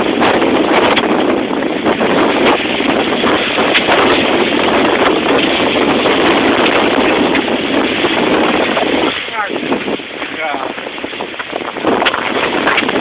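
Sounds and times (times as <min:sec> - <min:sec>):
water rushing along a hull: 0:00.0 - 0:13.0
wind on microphone: 0:00.0 - 0:13.0.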